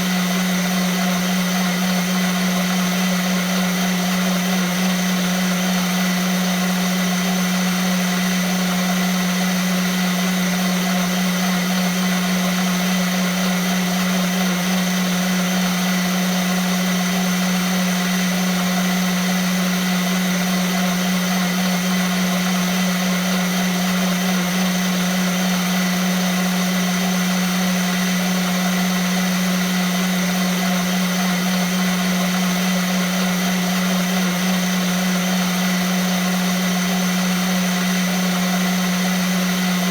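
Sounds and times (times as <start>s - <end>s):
blender motor whirring: 0.0s - 39.9s.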